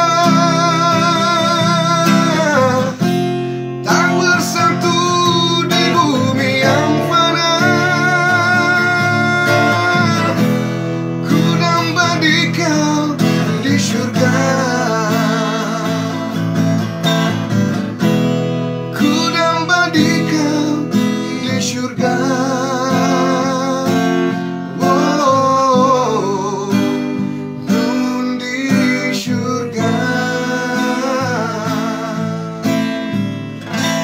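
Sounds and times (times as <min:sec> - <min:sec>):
classical guitar strumming: 0:00.0 - 0:34.0.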